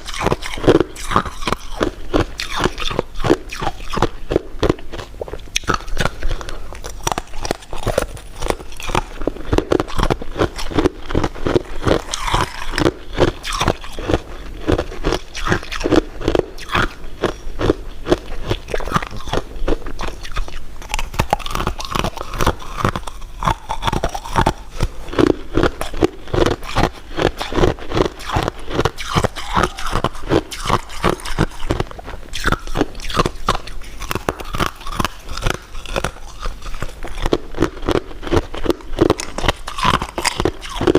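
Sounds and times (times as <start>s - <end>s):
crunching and chewing sweets: 0.0s - 40.9s.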